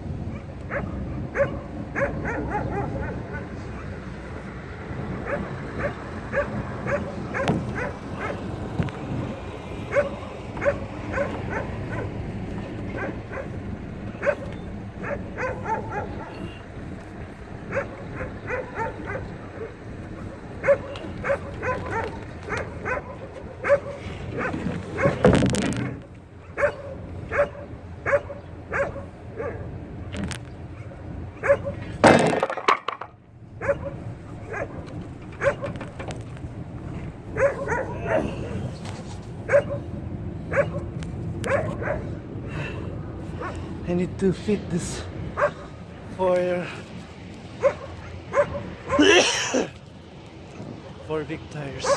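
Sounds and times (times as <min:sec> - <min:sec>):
noisy surges: 0:00.0 - 0:51.9.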